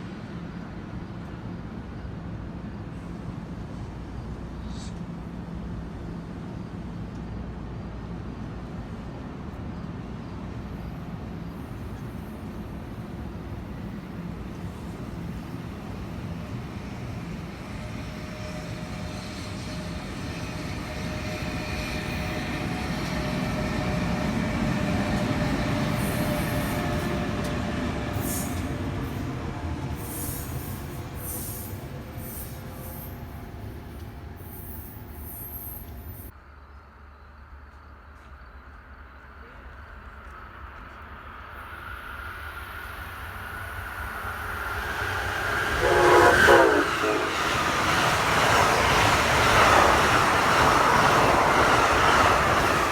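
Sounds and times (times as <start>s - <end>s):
train wheels rumbling on rail: 0.0s - 36.4s, 37.4s - 52.9s.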